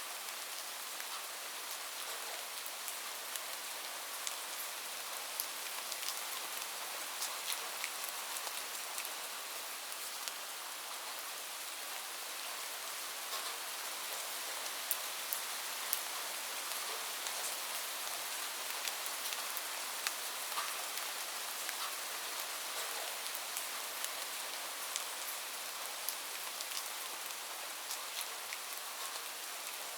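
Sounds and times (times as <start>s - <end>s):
light rain falling: 0.0s - 29.9s
ticks of raindrops: 0.3s - 11.2s, 13.2s - 29.9s.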